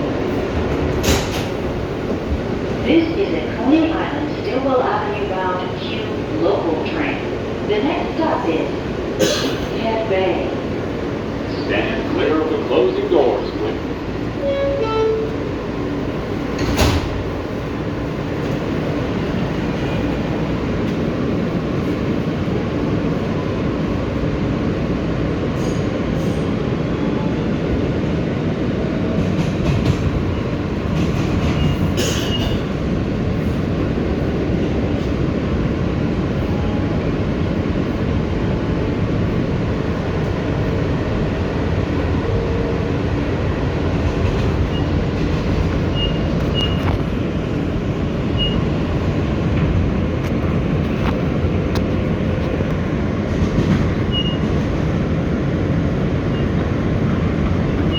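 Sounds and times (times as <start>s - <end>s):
rail clicks: 0.0s - 24.6s, 28.5s - 57.9s
wheels rumbling on rail: 0.0s - 57.9s.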